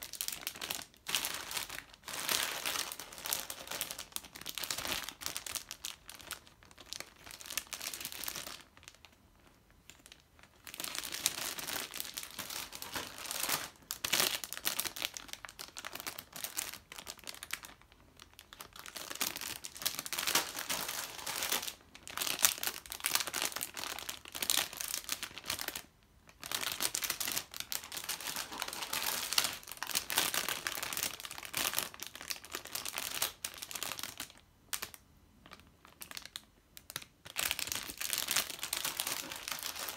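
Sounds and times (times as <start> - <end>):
plastic bags crinkling: 0.0 - 39.9.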